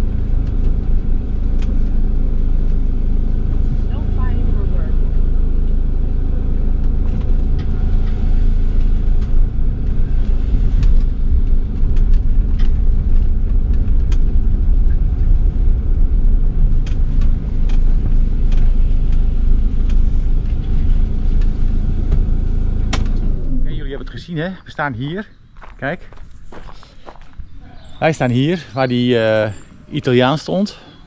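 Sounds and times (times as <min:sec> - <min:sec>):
motorhome engine rumbling: 0:00.0 - 0:31.0.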